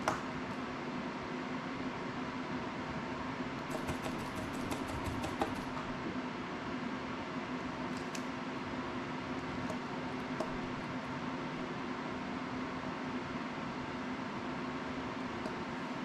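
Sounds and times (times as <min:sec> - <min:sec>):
fan hum and hiss: 0:00.0 - 0:16.0.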